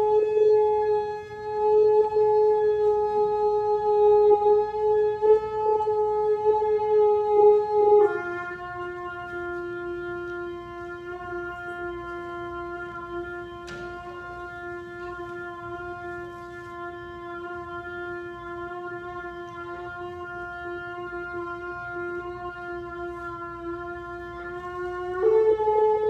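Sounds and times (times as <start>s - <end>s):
shofar blast: 0.0s - 26.0s.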